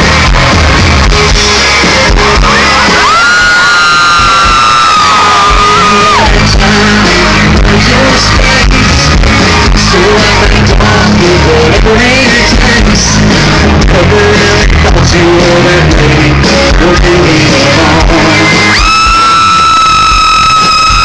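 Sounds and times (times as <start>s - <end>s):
live country band playing: 0.0s - 21.0s
sliding guitar line: 0.0s - 21.0s.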